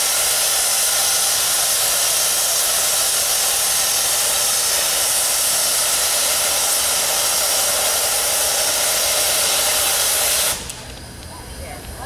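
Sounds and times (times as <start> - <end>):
loud steam hiss: 0.0 - 10.8.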